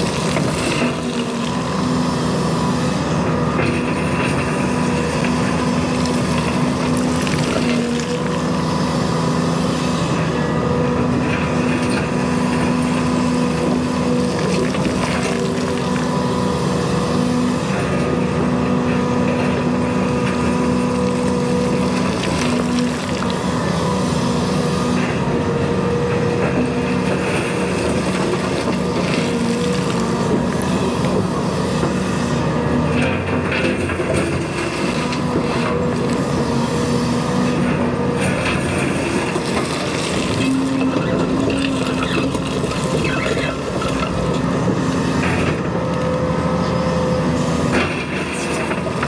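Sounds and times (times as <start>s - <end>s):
excavator engine and hydraulics: 0.0s - 49.0s.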